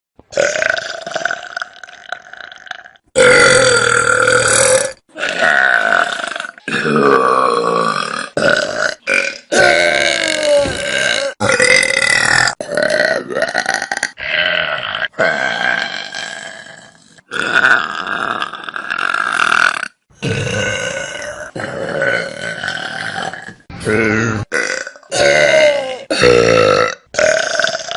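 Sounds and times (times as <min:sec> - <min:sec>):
person burping: 0:00.3 - 0:27.9.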